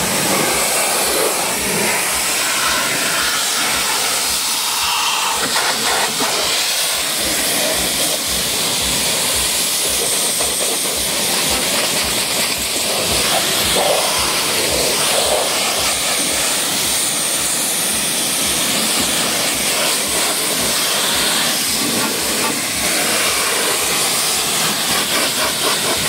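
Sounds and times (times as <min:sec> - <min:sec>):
pressure washer spraying car: 0:00.0 - 0:26.0.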